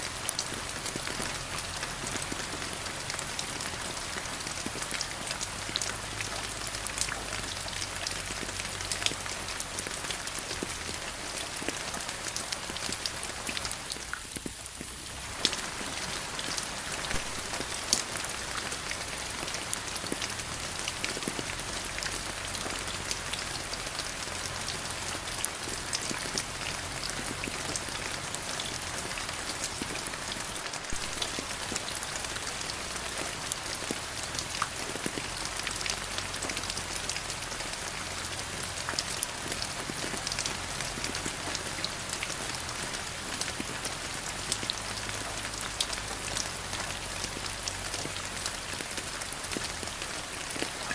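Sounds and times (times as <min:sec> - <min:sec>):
raindrops pattering on surfaces: 0:00.0 - 0:50.9
steady rain hiss: 0:00.0 - 0:50.9.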